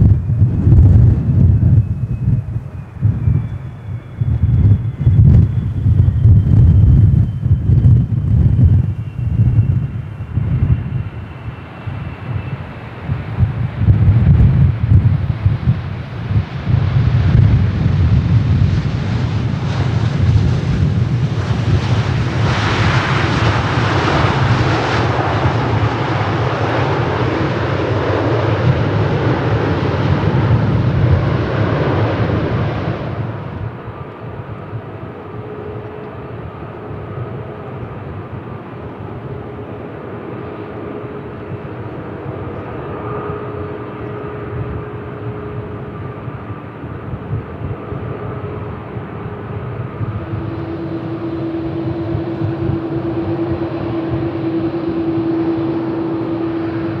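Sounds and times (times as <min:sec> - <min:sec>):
jet engine whine: 0:00.0 - 0:57.0
jet engines roaring: 0:00.0 - 0:57.0.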